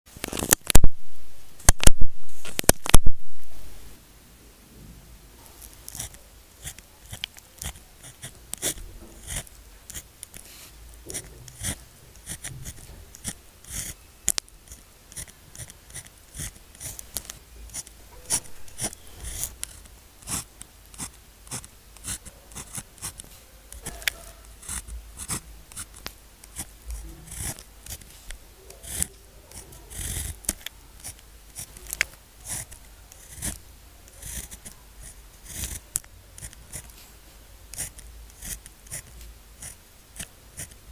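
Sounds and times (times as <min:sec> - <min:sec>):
pen scratching on paper: 0:05.8 - 0:14.0, 0:14.6 - 0:37.0, 0:37.7 - 0:40.9.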